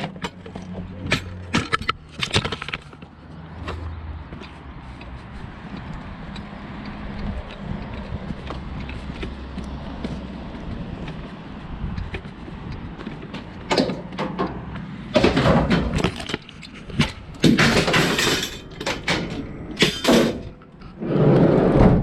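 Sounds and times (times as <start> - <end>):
knocks and scraping clatters: 0.0 - 22.0.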